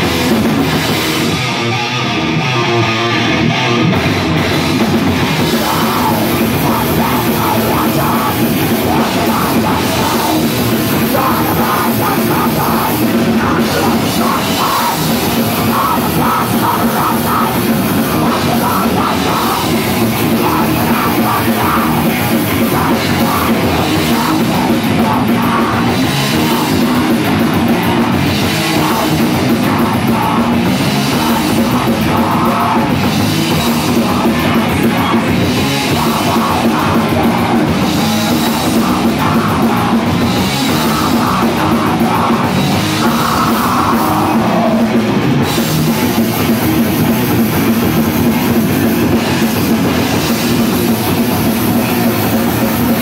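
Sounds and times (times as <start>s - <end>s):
distorted electric guitar: 0.0s - 53.0s
drum kit: 0.0s - 53.0s.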